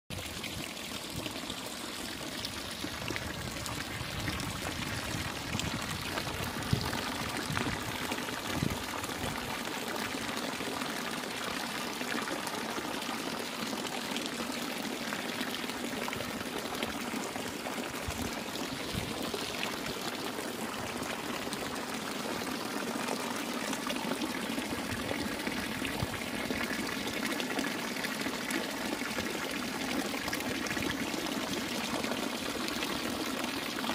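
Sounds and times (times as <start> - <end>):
fountain water splashing: 0.1 - 33.9.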